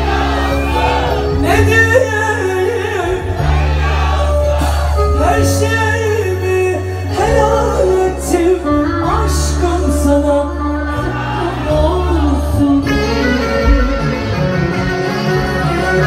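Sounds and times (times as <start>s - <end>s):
live band music through pa: 0.0s - 16.0s.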